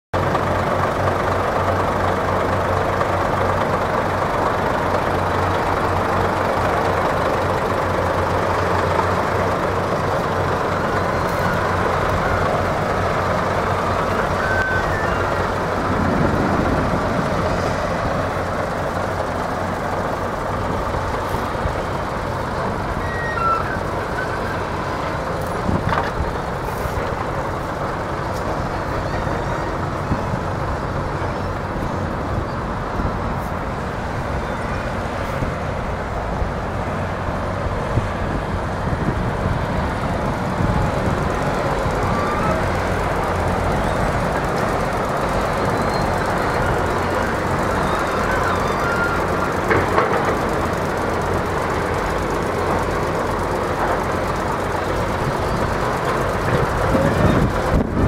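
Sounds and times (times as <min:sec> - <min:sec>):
diesel truck engine idling: 0:00.2 - 0:58.0.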